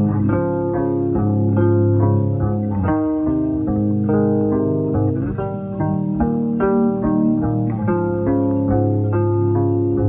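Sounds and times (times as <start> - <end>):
plucked guitar melody with bass: 0.0 - 10.0.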